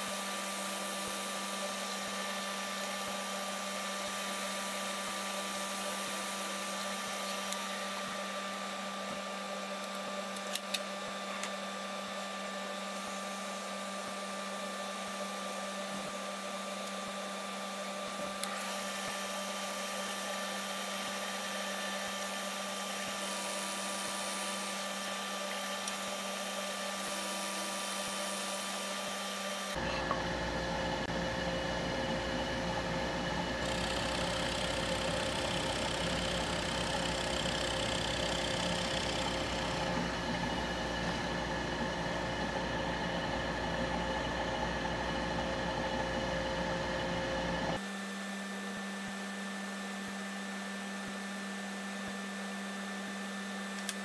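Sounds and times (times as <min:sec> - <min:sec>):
drill press running: 0:00.0 - 0:47.8.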